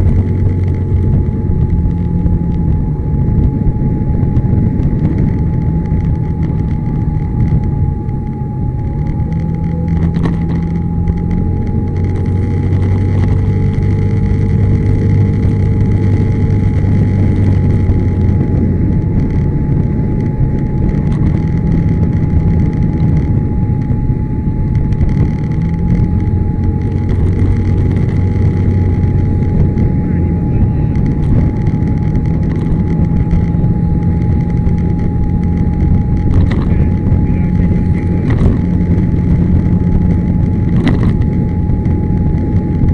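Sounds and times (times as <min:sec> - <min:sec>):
scooter engine drone: 0:00.0 - 0:42.9.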